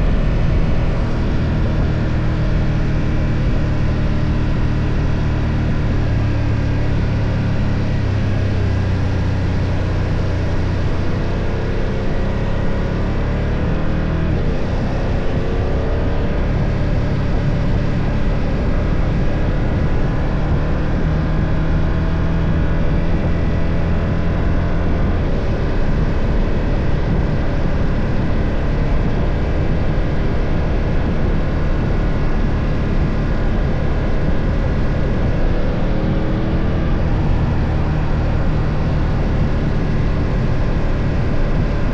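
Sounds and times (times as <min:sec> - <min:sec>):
motorcycle engine accelerating: 0:00.0 - 0:41.9
wind and road noise: 0:00.0 - 0:41.9.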